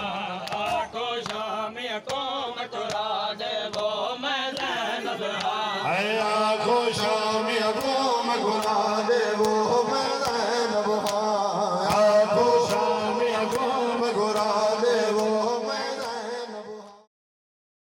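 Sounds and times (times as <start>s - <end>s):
men chanting together: 0.0s - 17.1s.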